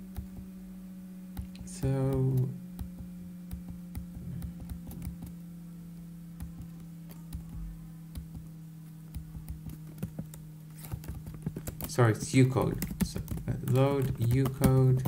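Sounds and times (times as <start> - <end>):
low hum: 0.0 - 15.0
keyboard keys clicking: 1.3 - 5.4, 6.0 - 15.0.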